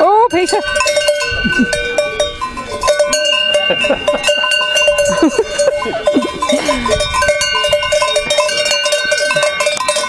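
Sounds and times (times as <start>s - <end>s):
cowbells clanking: 0.0s - 10.0s.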